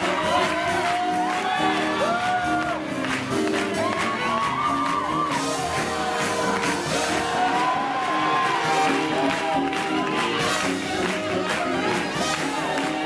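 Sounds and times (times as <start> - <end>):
big band playing swing: 0.0 - 13.0
crowd shouting and whooping: 0.0 - 13.0.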